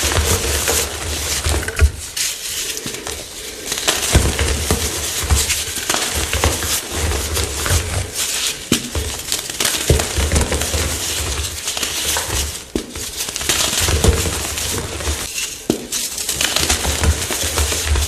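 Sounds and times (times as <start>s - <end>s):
chalk crunching and cracking: 0.0s - 18.0s.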